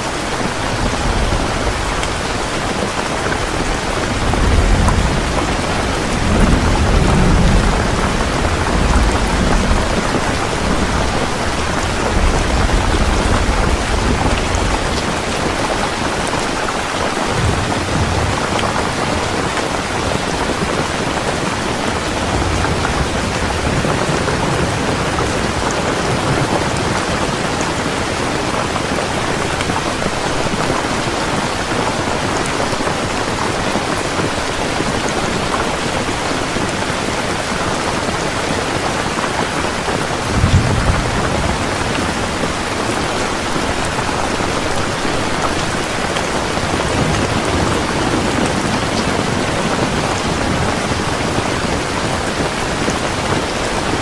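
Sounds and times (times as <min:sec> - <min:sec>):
heavy rain pouring: 0:00.0 - 0:54.0
thunder rumbling: 0:00.2 - 0:30.7, 0:33.0 - 0:54.0.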